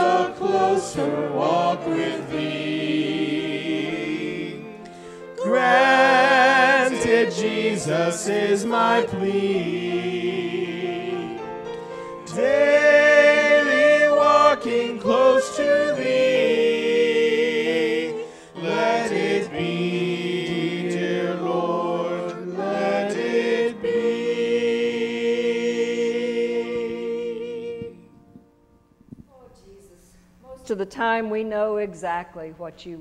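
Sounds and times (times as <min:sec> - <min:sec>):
group singing slow worship song: 0:00.0 - 0:28.4.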